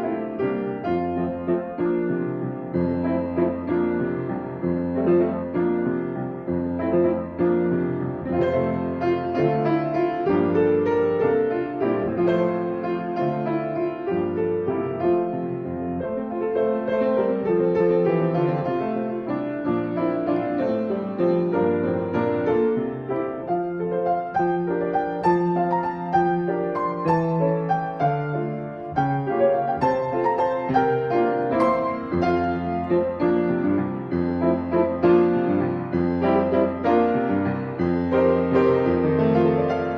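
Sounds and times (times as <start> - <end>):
slow gentle piano piece: 0.0 - 39.9.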